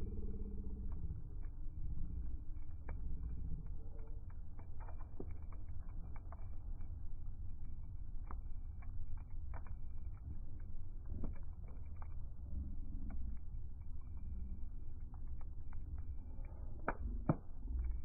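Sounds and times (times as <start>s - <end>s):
low rumble of flames: 0.0s - 18.0s
wood crackling and popping: 0.0s - 18.0s.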